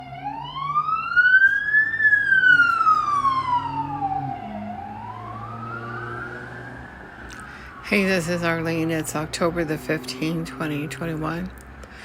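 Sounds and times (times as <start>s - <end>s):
emergency siren wailing: 0.0s - 11.8s.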